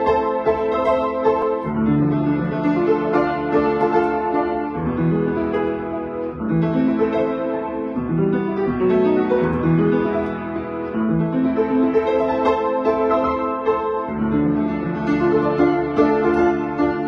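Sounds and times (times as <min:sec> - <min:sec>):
solo piano classical piece: 0:00.0 - 0:17.0.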